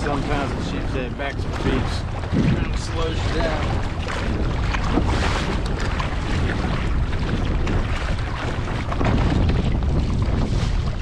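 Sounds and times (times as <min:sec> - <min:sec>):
water rushing and splashing: 0:00.0 - 0:11.0
wind buffeting microphone: 0:00.0 - 0:11.0
fish dragged through water: 0:01.6 - 0:11.0.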